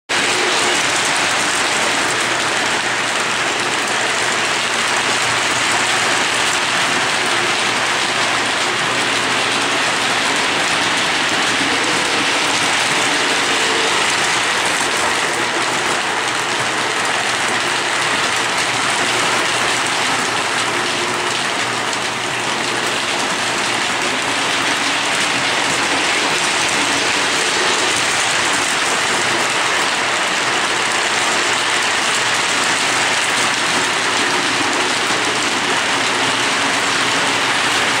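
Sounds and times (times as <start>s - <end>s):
model train wheels clattering on rails: 0.1s - 38.0s.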